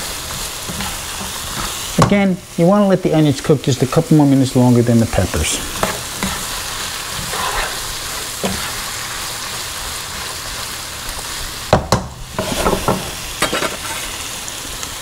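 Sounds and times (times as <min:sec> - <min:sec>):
onions sizzling in pan: 0:00.0 - 0:15.0.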